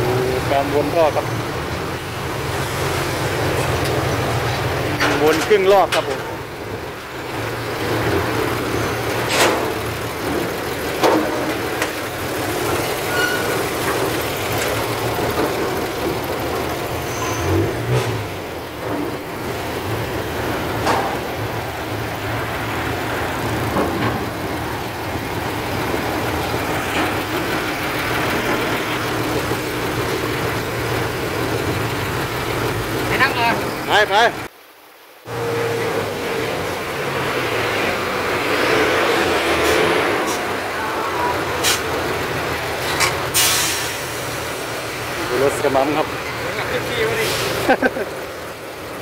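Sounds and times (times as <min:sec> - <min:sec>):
diesel truck engine running: 0:00.0 - 0:49.0.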